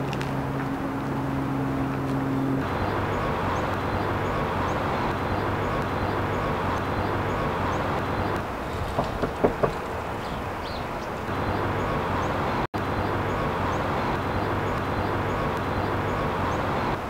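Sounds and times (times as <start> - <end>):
low hum: 0.0 - 17.0
outdoor background noise: 0.0 - 17.0
bird chirping: 2.4 - 16.9.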